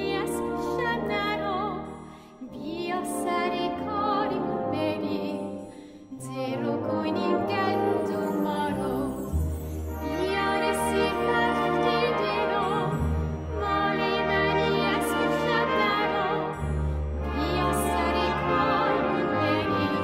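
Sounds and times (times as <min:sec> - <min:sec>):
melody with vibrato: 0:00.0 - 0:20.0.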